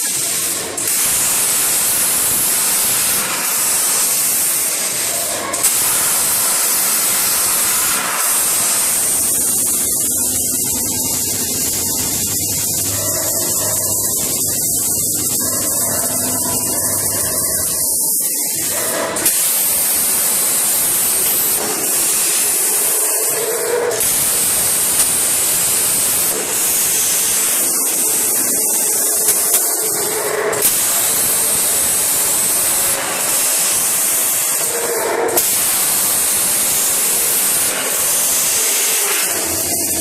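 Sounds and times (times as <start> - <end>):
drilling machine hiss: 0.0 - 40.0.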